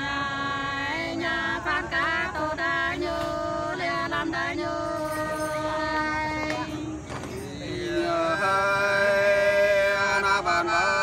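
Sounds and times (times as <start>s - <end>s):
two voices singing: 0.0s - 11.0s.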